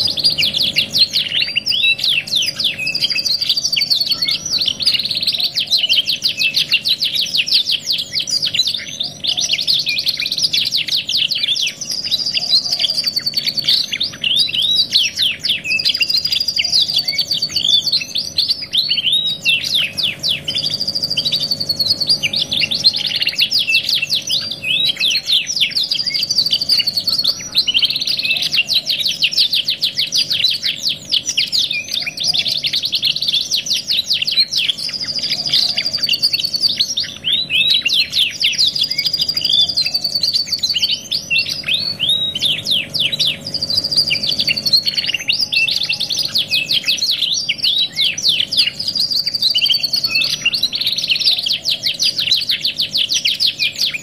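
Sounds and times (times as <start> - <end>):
canaries singing: 0.0 - 54.0.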